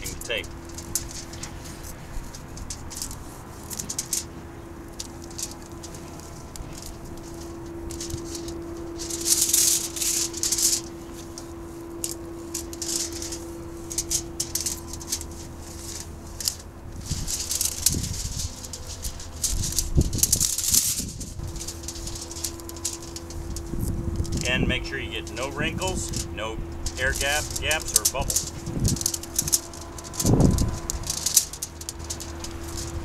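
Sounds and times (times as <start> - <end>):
tape interleafing crinkling and rustling: 0.0 - 33.0.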